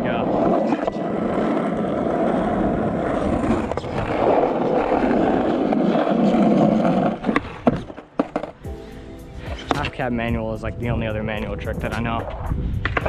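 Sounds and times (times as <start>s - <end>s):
skateboard wheels rolling on asphalt: 0.0s - 13.0s.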